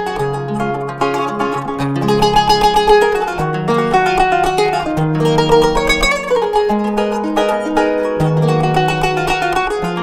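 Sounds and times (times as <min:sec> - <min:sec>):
plucked zither melody: 0:00.0 - 0:10.0.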